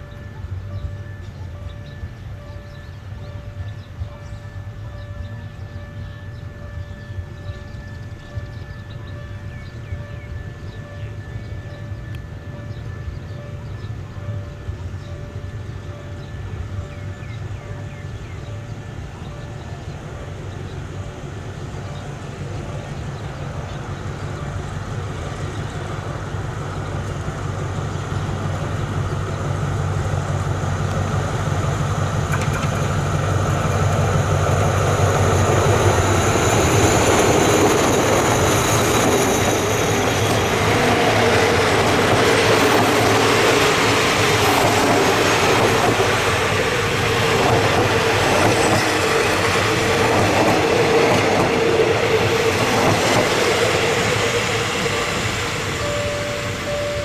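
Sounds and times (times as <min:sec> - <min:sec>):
passenger train on rails: 0:00.0 - 0:57.0.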